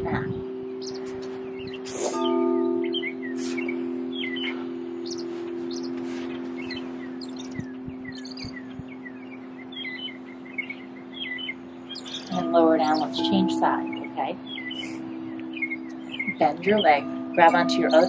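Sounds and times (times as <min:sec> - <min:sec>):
low drone: 0:00.0 - 0:18.0
songbirds chirping: 0:00.0 - 0:18.0.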